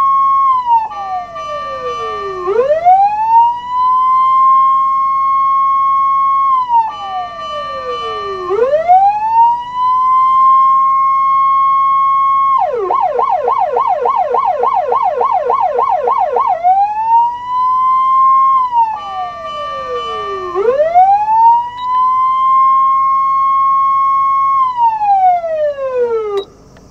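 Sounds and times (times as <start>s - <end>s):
siren fast warbling yelp: 0.0s - 26.4s
electronic siren wailing: 0.0s - 26.5s.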